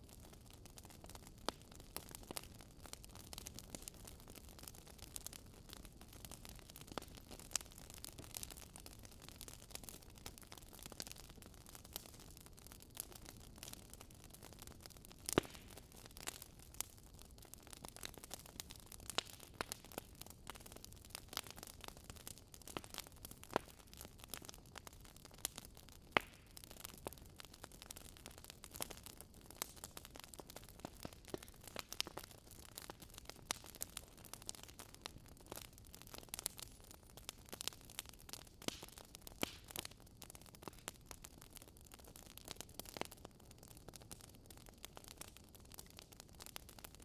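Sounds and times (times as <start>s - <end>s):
campfire pops and crackles: 0.0s - 47.0s.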